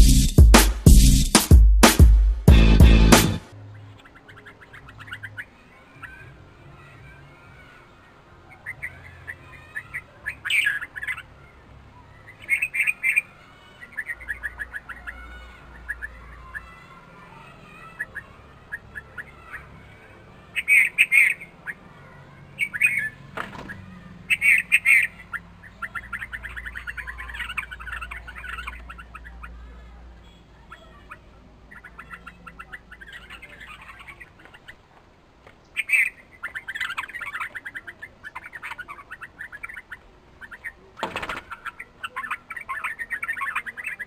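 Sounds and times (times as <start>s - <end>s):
bird chirping calls: 2.6s - 44.0s.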